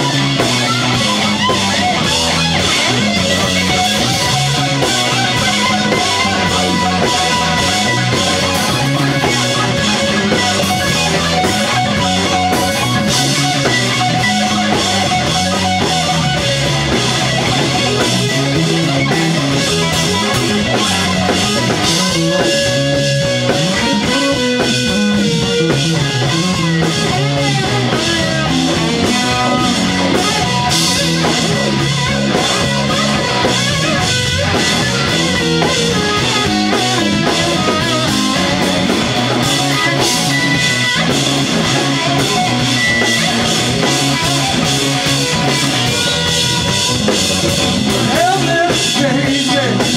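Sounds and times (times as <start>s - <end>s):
drum kit: 0.0s - 49.9s
electric guitar playing: 0.0s - 49.9s.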